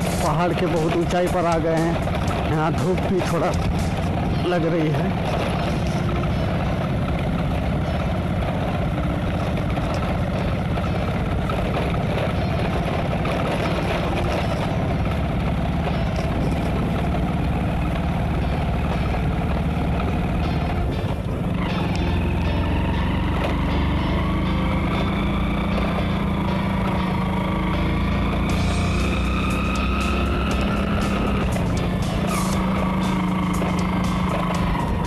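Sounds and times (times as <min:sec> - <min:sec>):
motorcycle engine under load: 0:00.0 - 0:35.0.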